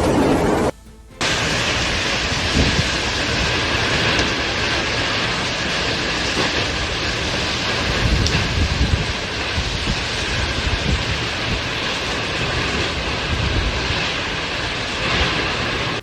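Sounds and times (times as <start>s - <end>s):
storm wind and rain rushing: 0.0s - 16.0s
wind buffeting microphone: 0.0s - 16.0s.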